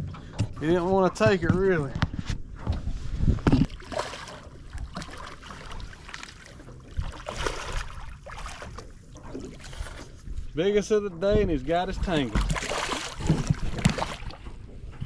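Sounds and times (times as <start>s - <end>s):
knocks and rustling in a boat: 0.0s - 15.0s
water: 0.0s - 15.0s
wind: 0.0s - 15.0s.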